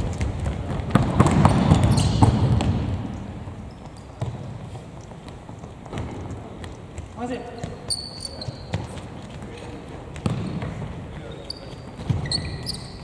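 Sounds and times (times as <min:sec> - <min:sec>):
footsteps: 0:00.0 - 0:12.6.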